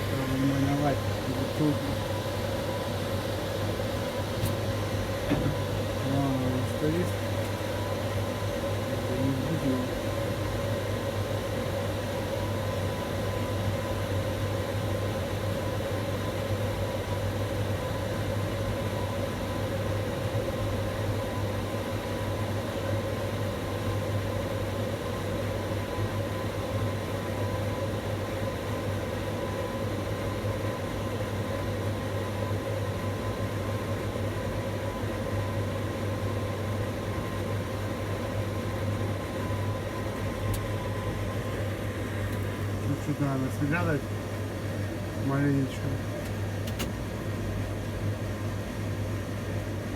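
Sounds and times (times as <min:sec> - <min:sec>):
electric hum with high whine: 0:00.0 - 0:49.9.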